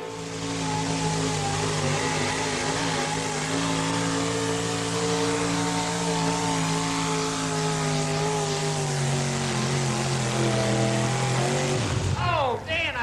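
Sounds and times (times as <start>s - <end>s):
truck engine at high revs: 0.0s - 12.6s.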